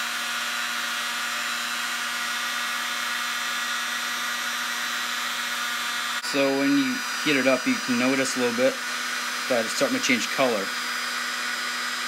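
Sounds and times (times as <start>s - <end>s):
heat gun fan blowing: 0.0s - 12.0s.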